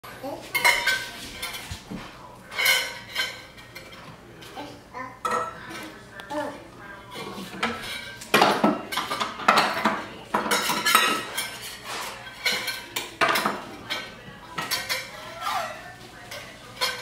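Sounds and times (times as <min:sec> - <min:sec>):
metal utensil clanking in a saucepan: 0:00.5 - 0:01.7, 0:02.5 - 0:04.5, 0:05.2 - 0:06.0, 0:07.1 - 0:17.0.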